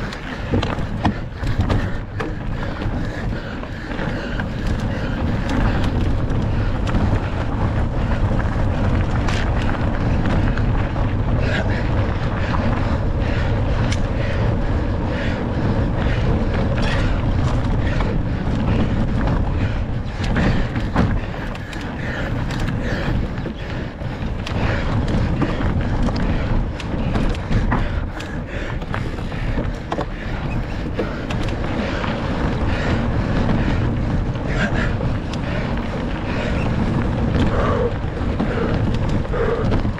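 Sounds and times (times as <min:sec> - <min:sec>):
bike rattling clicks and knocks: 0:00.0 - 0:39.9
tyres rolling over gravel: 0:00.0 - 0:39.9
wind rumbling on microphone: 0:00.0 - 0:39.9.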